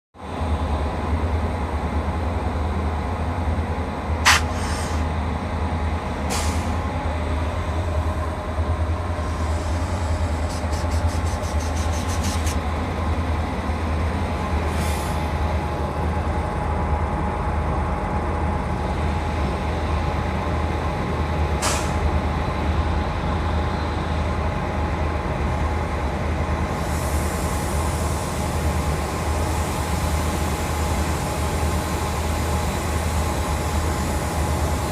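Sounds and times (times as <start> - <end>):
locomotive whir and hum: 0.2 - 34.9.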